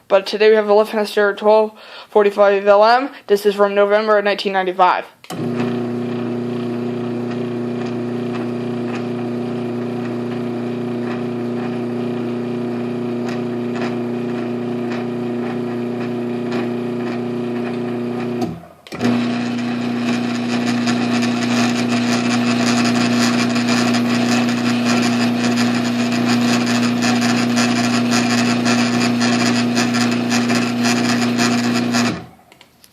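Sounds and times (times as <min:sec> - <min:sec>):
garage door opener motor humming: 0:05.3 - 0:32.5.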